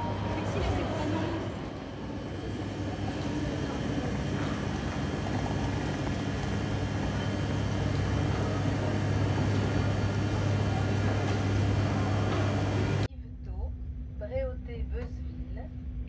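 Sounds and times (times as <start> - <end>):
electric train running: 0.0 - 13.1.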